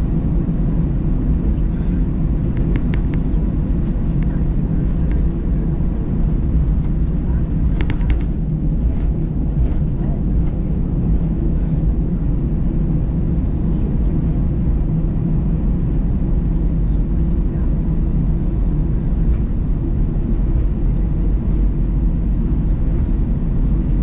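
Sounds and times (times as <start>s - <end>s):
airliner cabin rumble while taxiing: 0.0s - 24.0s.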